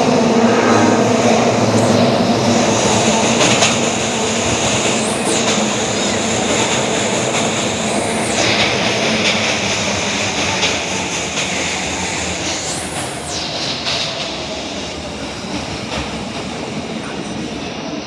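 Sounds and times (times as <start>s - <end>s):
high-pitched squeal: 0.0s - 17.7s
subway train rumble: 0.0s - 18.0s.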